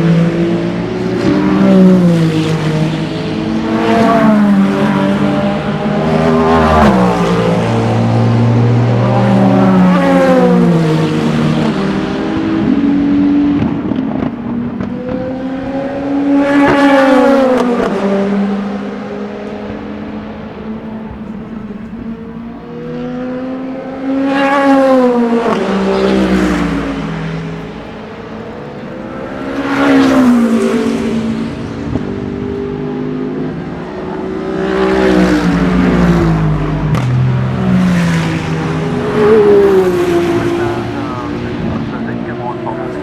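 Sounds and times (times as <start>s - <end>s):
race cars passing at speed: 0.0s - 43.0s.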